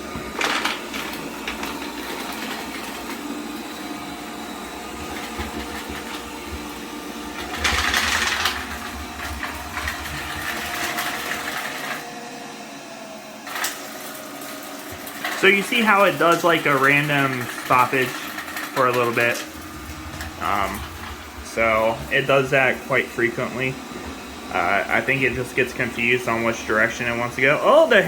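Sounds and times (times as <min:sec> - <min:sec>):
robot vacuum running: 0:00.0 - 0:28.0.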